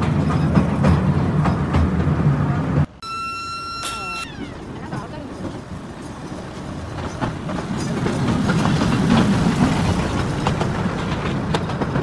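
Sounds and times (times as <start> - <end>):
train wheels rumbling on rails: 0.0 - 2.9, 4.4 - 12.0.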